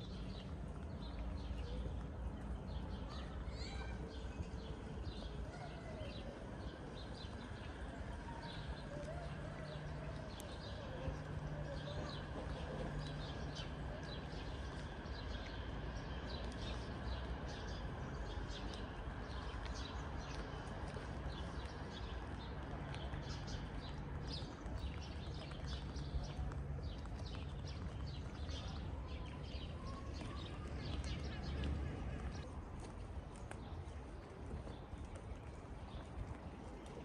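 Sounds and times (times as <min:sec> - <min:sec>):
distant traffic rumble: 0:00.0 - 0:37.0.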